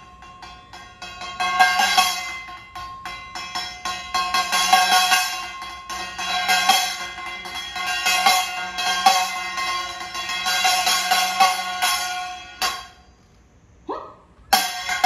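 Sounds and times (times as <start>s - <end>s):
small hand cymbals clashing: 0.0s - 13.3s, 14.5s - 15.0s.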